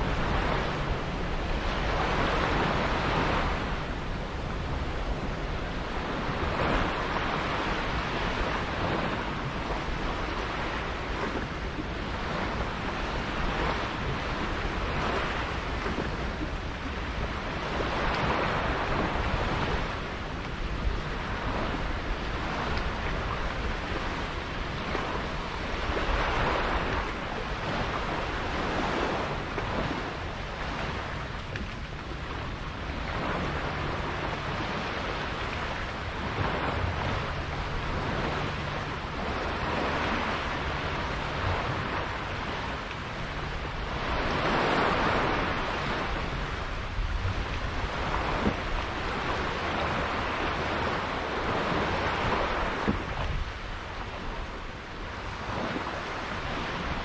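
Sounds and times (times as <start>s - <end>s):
sea water rushing and splashing: 0.0s - 57.0s
wind buffeting microphone: 0.0s - 57.0s.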